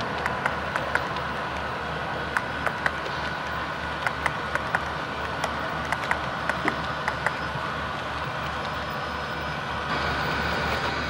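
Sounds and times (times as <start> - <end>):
model train wheels clicking: 0.0 - 9.4
model train rolling hum: 0.0 - 11.0.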